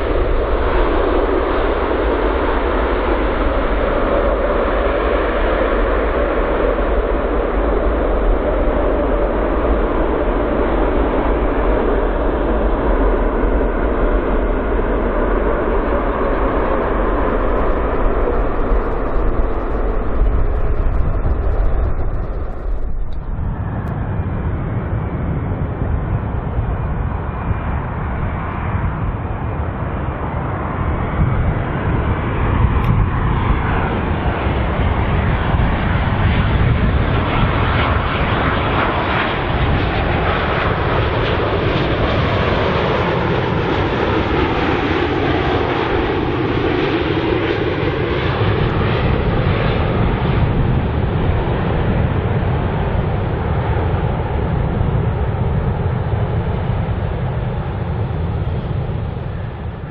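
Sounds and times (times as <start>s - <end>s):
jet airliner engines rushing: 0.0s - 59.9s.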